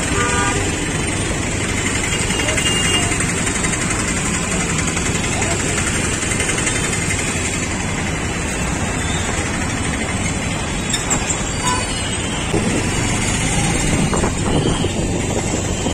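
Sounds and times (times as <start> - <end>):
heavy traffic engines rumbling: 0.0 - 15.9.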